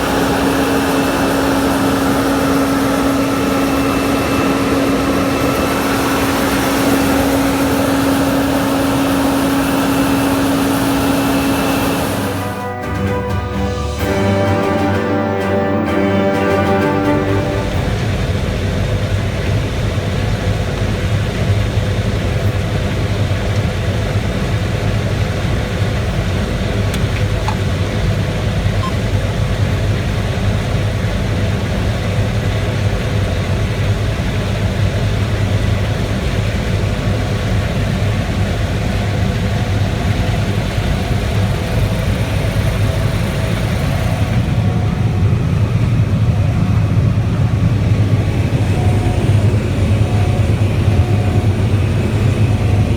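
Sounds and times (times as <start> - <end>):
diesel engine humming: 0.0 - 52.9.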